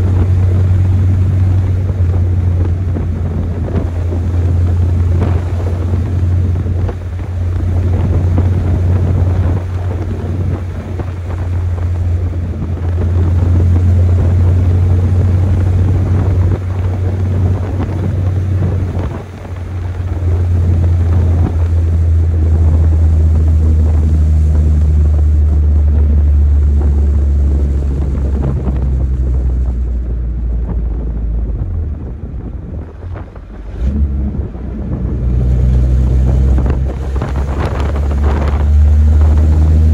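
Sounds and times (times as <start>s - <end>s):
pickup engine droning: 0.0s - 39.9s
wind noise: 0.0s - 39.9s.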